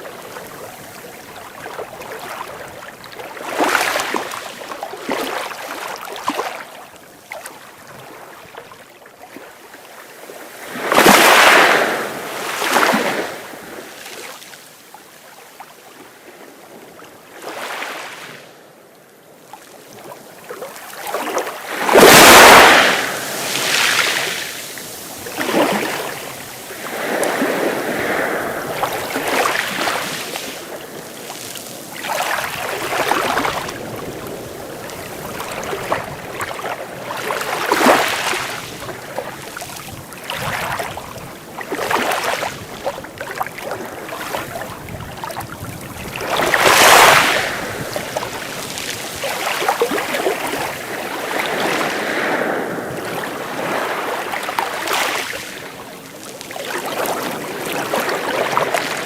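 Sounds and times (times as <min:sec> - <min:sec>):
sea waves breaking on beach: 0:00.0 - 0:18.5, 0:19.4 - 0:59.0.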